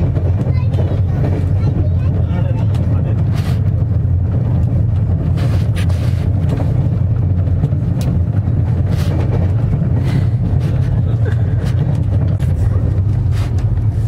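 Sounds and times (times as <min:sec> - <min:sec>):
faint clicks and rattles: 0:00.0 - 0:14.0
train coach rumble: 0:00.0 - 0:14.0.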